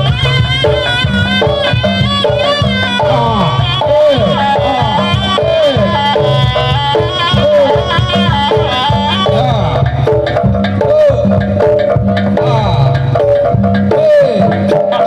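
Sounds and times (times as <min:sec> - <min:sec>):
hand drums rhythm: 0:00.0 - 0:15.0
high sliding melody: 0:00.0 - 0:15.0.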